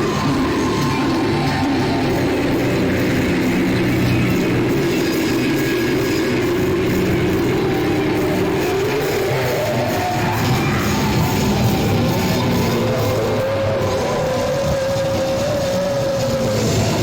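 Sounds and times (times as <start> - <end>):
distorted guitars and bass: 0.0 - 17.0.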